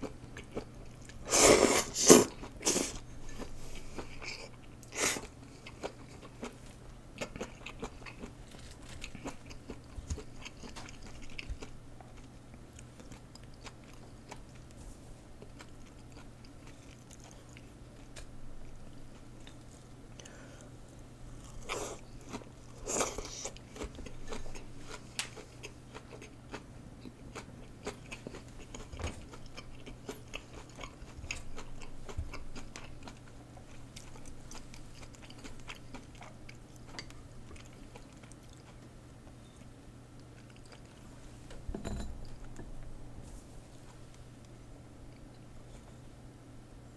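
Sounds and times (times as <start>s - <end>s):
chewing and crunching food: 0.0s - 1.3s, 2.2s - 14.8s, 15.4s - 20.4s, 21.3s - 41.2s
faint low hum: 0.0s - 46.9s.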